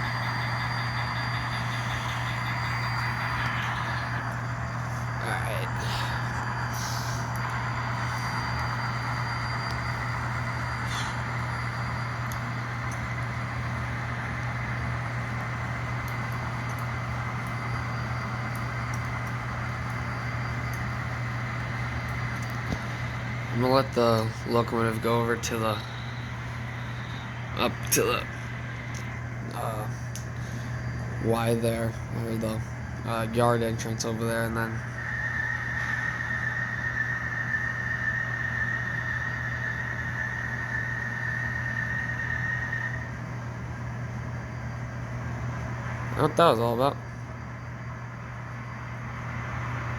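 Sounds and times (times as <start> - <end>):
diesel engine drone: 0.0 - 49.9
low steady hum: 0.0 - 49.9
model locomotive whine: 0.0 - 49.9.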